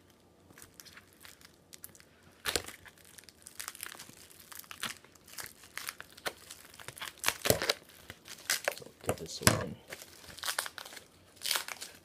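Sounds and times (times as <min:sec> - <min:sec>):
mailing envelope crinkling: 0:00.5 - 0:12.0.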